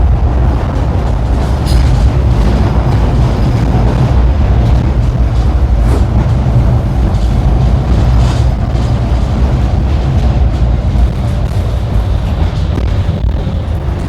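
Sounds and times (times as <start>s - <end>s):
tram wheels rumbling on rail: 0.0s - 14.0s.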